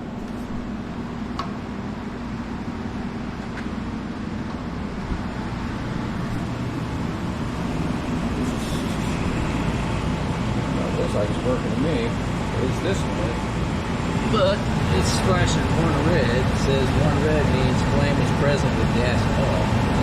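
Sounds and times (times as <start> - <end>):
gas furnace rushing and humming: 0.0 - 20.0.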